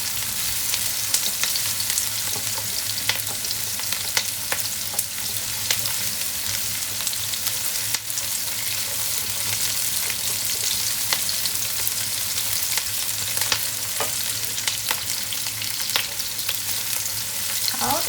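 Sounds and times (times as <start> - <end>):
garlic and onion sizzling in oil: 0.0 - 18.0.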